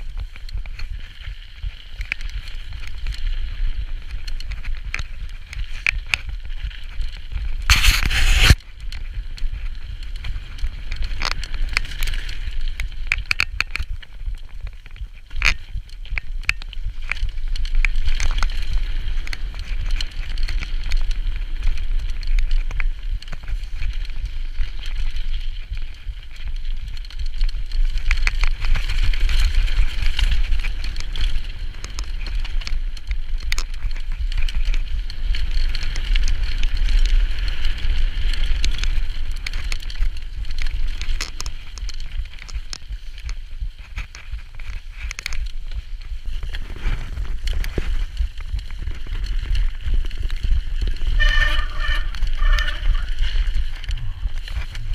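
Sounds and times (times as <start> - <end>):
bike chain and frame rattling: 0.0 - 54.9
wind rumble on microphone: 0.0 - 54.9.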